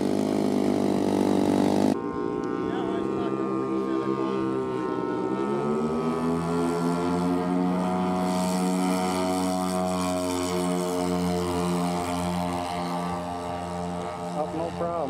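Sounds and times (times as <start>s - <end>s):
model propeller engines throttling up: 0.0s - 15.0s.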